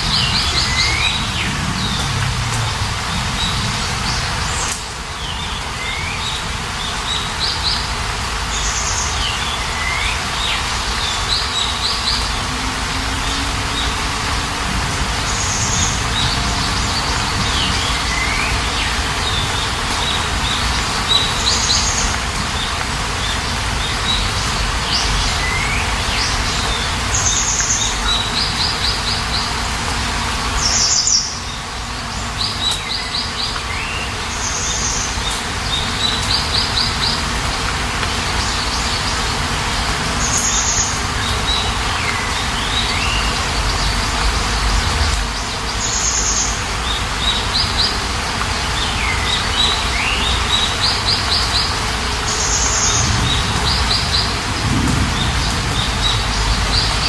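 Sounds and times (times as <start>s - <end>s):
rain hiss: 0.0s - 57.0s
small birds chirping: 0.0s - 57.0s.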